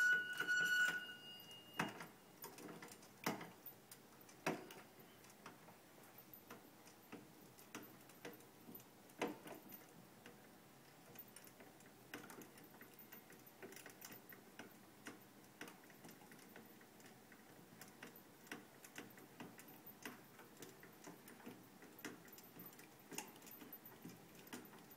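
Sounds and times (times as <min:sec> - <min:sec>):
light mechanical clicks and ticks: 0:01.8 - 0:24.9.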